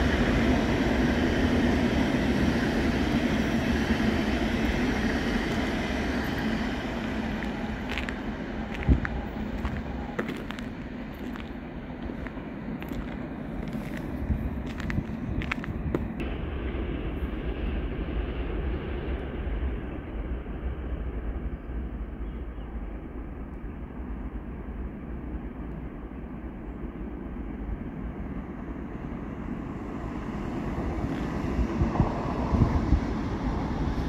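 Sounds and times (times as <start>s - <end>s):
train rumbling: 0.0s - 34.0s.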